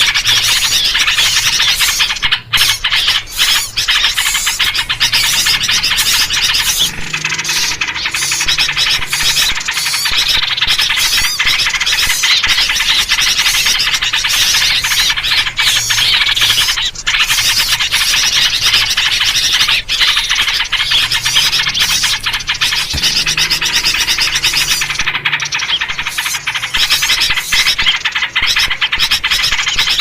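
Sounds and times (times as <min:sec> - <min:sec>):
small birds chattering: 0:00.0 - 0:30.0.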